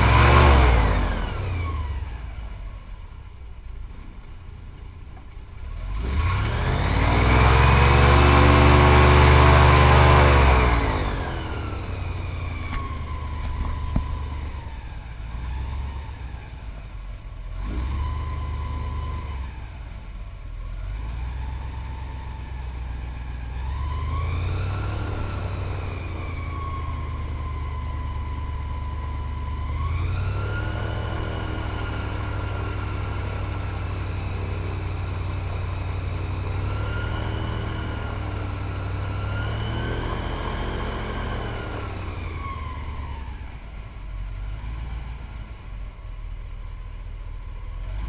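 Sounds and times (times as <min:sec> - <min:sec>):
airboat engine and propeller: 0:00.0 - 0:03.3, 0:05.9 - 0:17.1, 0:19.3 - 0:44.3.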